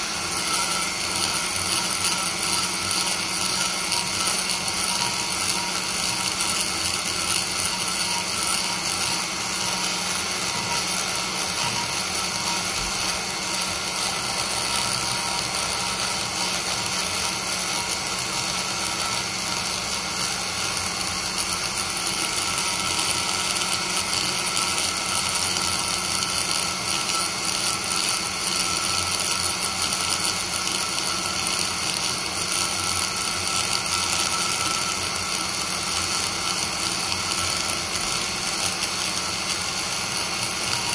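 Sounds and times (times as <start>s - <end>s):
die grinder whining on metal: 0.0s - 40.9s.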